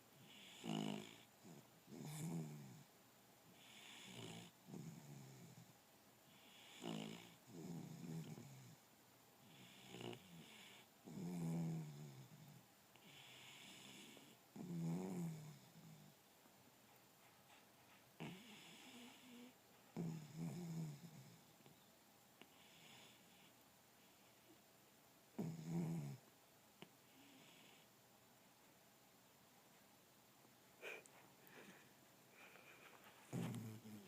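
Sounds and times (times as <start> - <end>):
faint breathy hiss: 0.0 - 34.0
puppy snoring softly: 0.2 - 2.9, 3.5 - 16.2, 17.2 - 21.8, 22.4 - 24.6, 25.3 - 28.0, 30.8 - 34.0.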